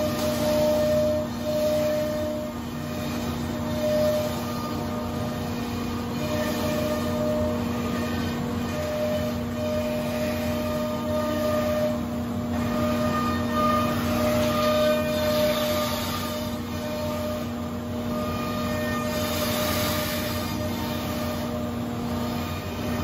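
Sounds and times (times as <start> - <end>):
router spindle whine: 0.0 - 23.0.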